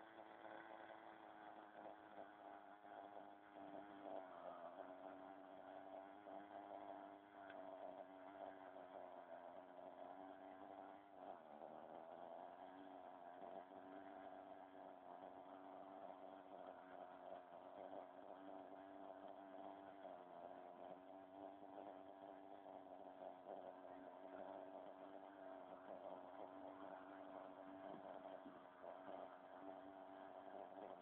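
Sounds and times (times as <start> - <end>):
model helicopter droning: 0.0 - 31.0.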